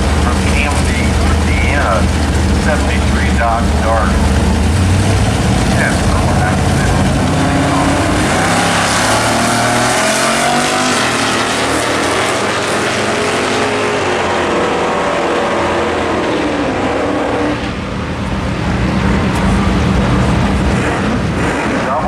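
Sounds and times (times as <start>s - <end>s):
drag racing cars accelerating: 0.0s - 22.0s.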